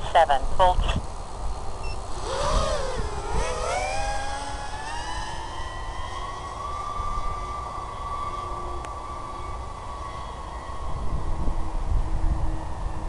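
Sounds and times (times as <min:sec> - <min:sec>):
drone propellers whining: 0:01.6 - 0:13.0.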